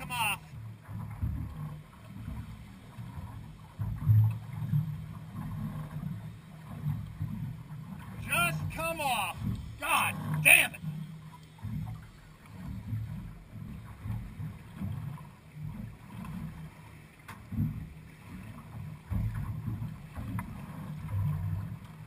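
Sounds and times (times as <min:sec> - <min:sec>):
waves slapping boat hull: 0:00.0 - 0:22.0.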